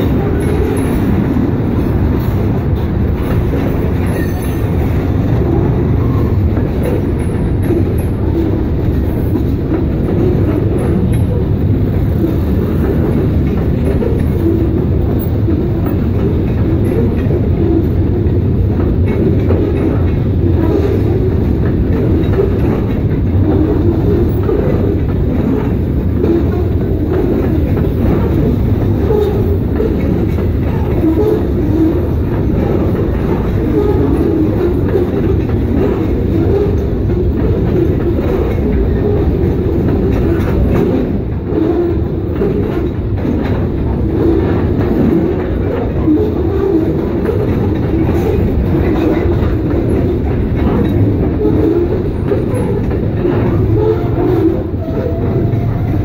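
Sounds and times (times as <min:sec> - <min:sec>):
freight cars rolling over rails: 0:00.0 - 0:56.0.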